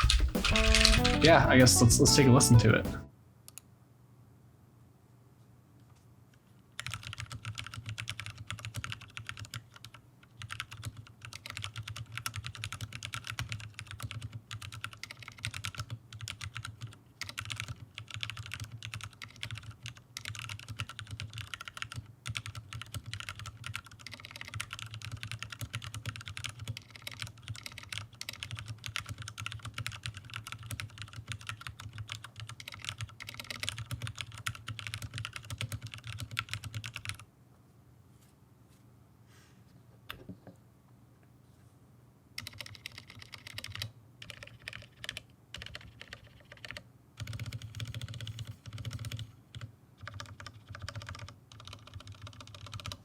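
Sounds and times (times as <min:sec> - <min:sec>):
fast typing on mechanical keyboard: 0:00.0 - 0:01.4, 0:06.7 - 0:37.3, 0:42.4 - 0:53.0.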